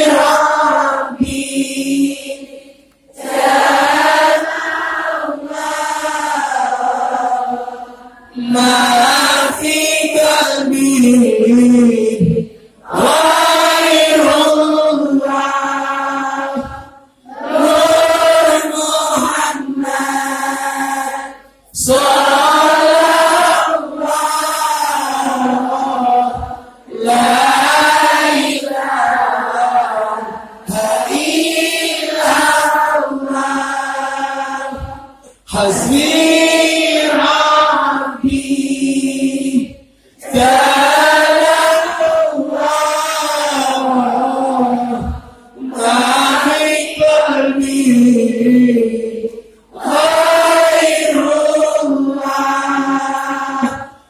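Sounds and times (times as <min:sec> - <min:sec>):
congregation chanting: 0:00.0 - 0:54.0.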